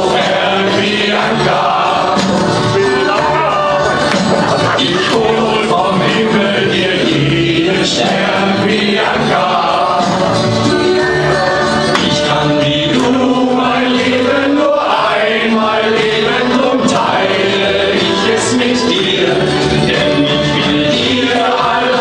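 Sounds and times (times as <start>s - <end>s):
accompanying music: 0.0s - 22.0s
men singing in chorus: 0.0s - 22.0s.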